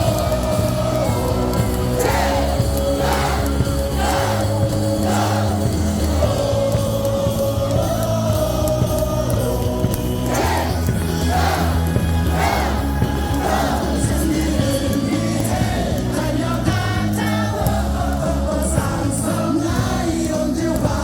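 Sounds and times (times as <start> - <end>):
cheer song over stadium speakers: 0.0 - 21.0
crowd singing and shouting: 0.0 - 21.0.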